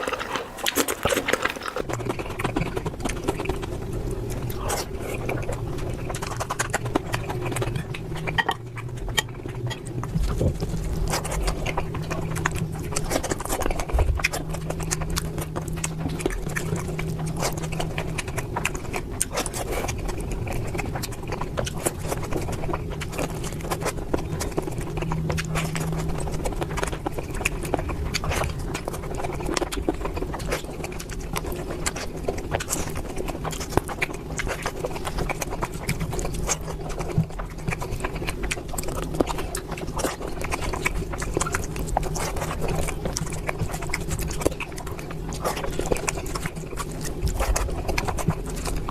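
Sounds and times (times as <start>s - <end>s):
wet chewing and mouth smacking: 0.0s - 48.9s.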